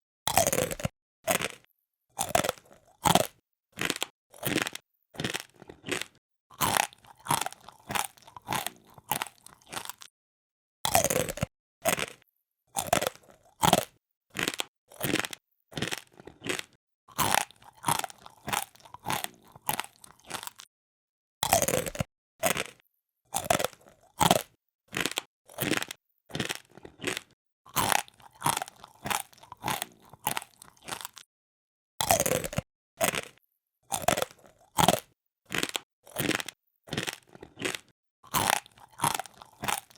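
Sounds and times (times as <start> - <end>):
person chewing crunchy food: 0.3 - 10.1, 10.9 - 20.7, 21.4 - 31.3, 32.0 - 39.9.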